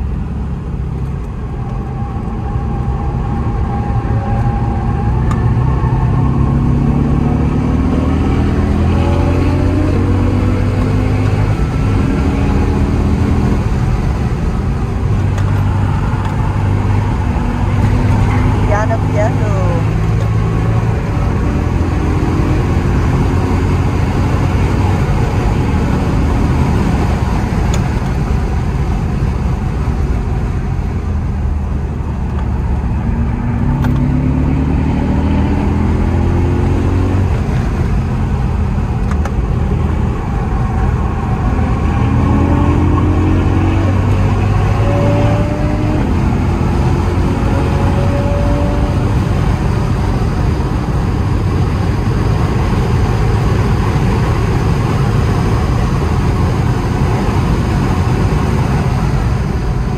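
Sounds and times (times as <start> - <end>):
car engine accelerating: 0.0 - 59.9
road noise inside car: 0.0 - 59.9.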